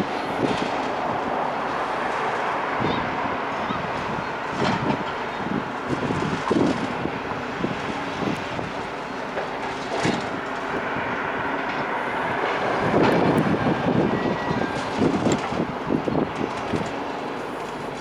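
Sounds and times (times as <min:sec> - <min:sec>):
heavy engine rumble: 0:00.0 - 0:18.0.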